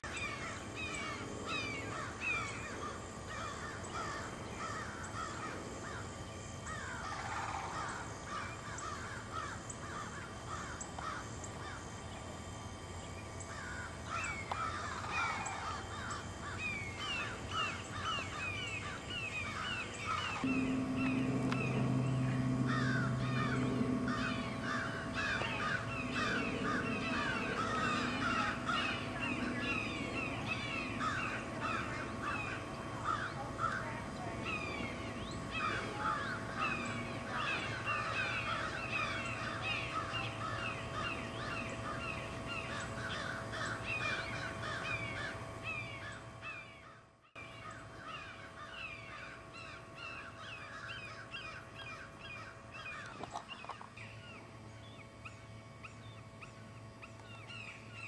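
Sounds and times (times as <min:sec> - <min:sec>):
chorus of wild birds calling: 0:00.0 - 0:58.0
faint steady hum: 0:00.0 - 0:58.0
crows cawing: 0:00.1 - 0:11.9, 0:13.5 - 0:53.4.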